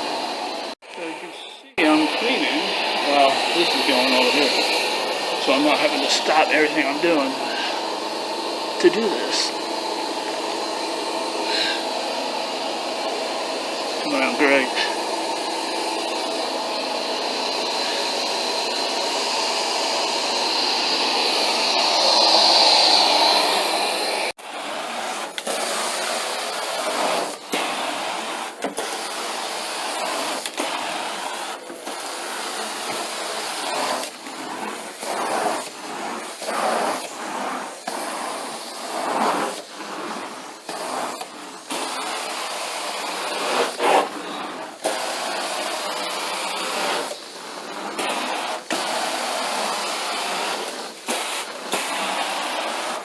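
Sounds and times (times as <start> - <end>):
carpet extraction machine whine: 1.8 - 53.0
cleaning wand strokes over carpet: 1.8 - 53.0.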